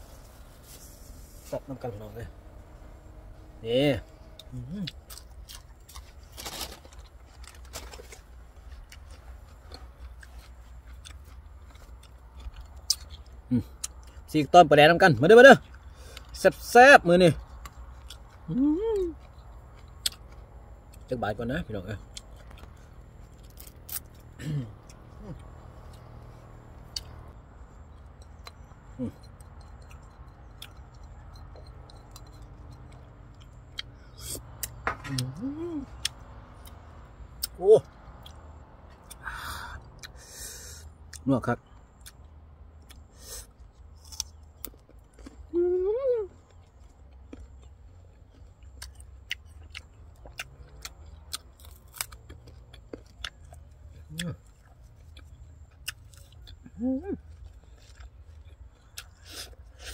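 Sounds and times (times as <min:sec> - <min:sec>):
man chewing leaves: 0:00.0 - 0:59.9
steady low hum: 0:00.0 - 0:59.9.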